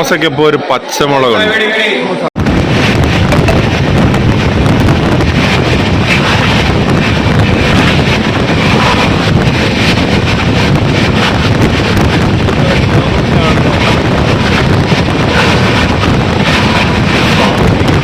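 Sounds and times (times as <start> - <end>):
moving passenger train: 1.4 - 18.0
wind buffeting microphone: 2.4 - 18.0.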